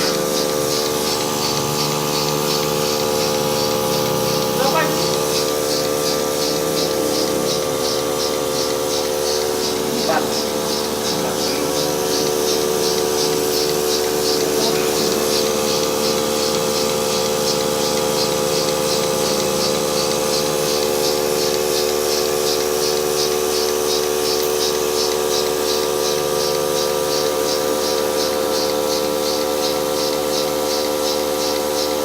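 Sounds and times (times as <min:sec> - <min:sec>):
pulsator rapid hissing pulse: 0:00.0 - 0:32.0
vacuum pump motor humming: 0:00.0 - 0:32.0.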